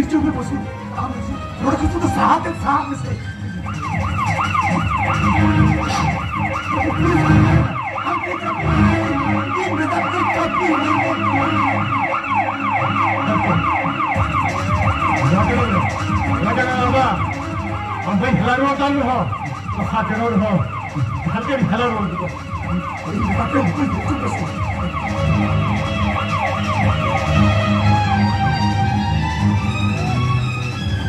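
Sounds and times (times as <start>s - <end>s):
warbling siren tone: 3.2s - 31.0s.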